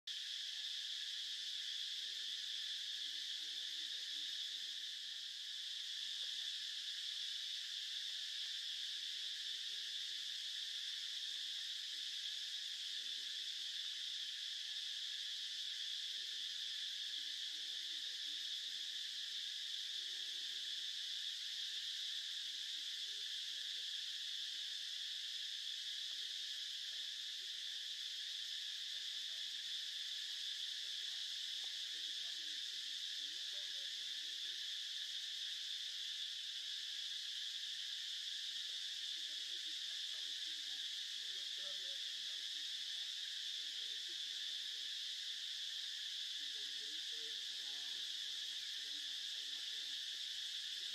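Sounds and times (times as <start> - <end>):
insect chorus drone: 0.1 - 50.9.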